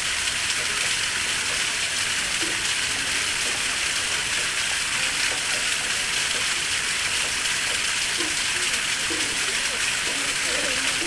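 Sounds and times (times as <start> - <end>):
waterfall splashing: 0.0 - 11.0.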